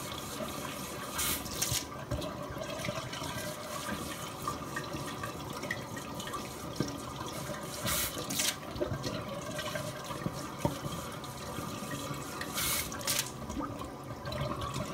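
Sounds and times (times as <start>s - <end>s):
water splashing from a tap: 0.0s - 14.9s.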